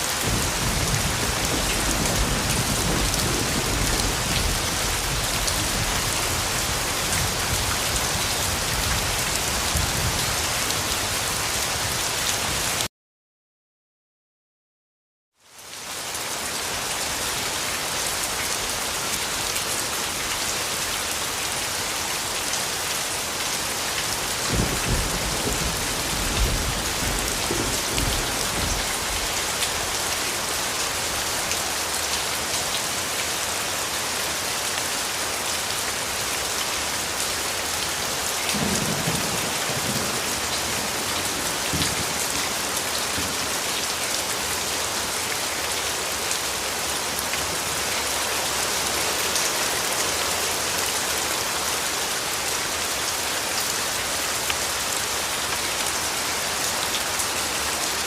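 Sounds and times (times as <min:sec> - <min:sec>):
heavy rain falling: 0:00.0 - 0:12.9, 0:15.4 - 0:58.0.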